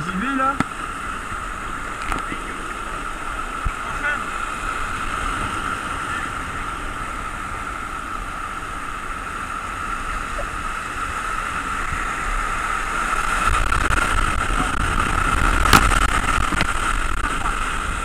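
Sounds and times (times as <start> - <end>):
whitewater rapids rushing: 0.0 - 18.0.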